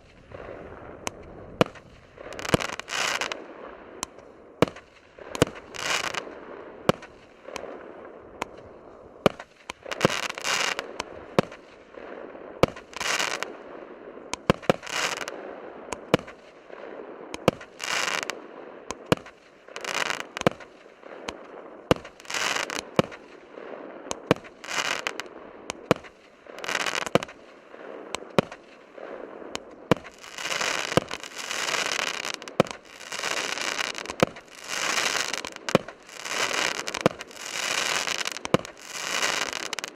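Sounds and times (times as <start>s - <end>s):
crackling fireworks stars: 0.0s - 39.9s.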